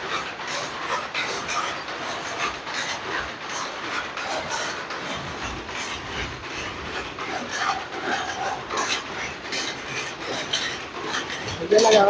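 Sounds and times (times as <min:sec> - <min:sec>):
mechanical clatter: 0:00.0 - 0:12.0.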